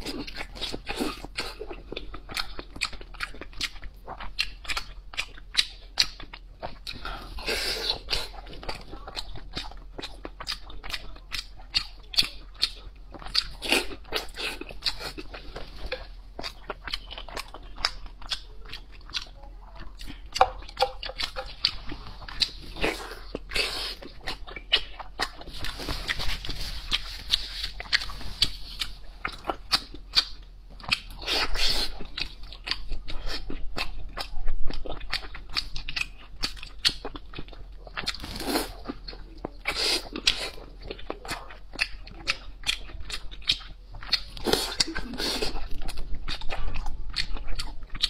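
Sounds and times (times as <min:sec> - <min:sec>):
person chewing close up: 0:00.0 - 0:48.0.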